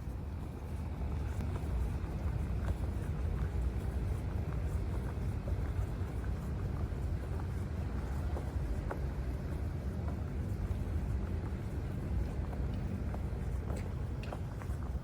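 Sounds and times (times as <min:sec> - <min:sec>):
street background rumble: 0:00.0 - 0:15.0.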